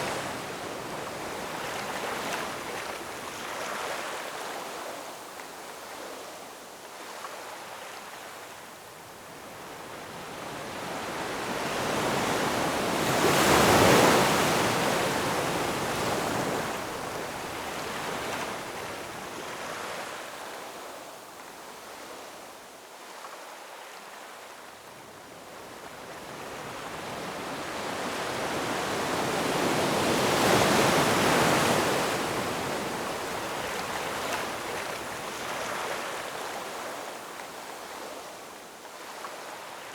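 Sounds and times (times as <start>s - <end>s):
ocean waves breaking on shore: 0.0s - 6.2s, 9.3s - 21.1s, 25.5s - 39.9s.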